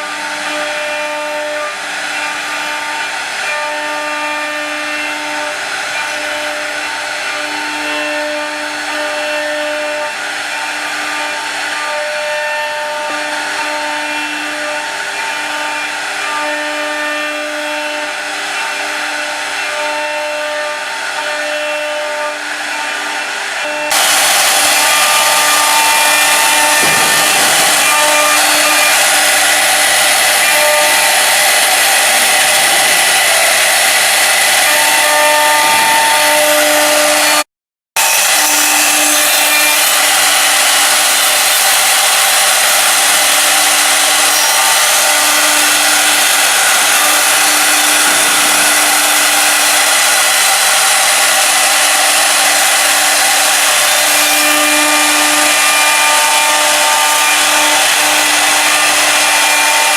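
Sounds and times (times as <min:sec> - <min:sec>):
router spindles cutting whir: 0:00.0 - 0:37.4, 0:38.0 - 0:59.9.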